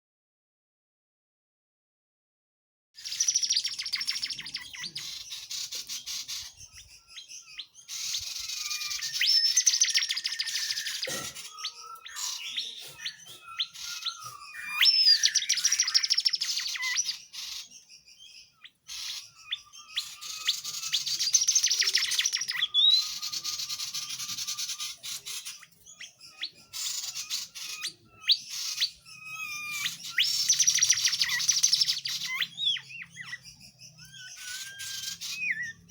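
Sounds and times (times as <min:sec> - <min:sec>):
songbird twittering: 0:03.0 - 0:35.9.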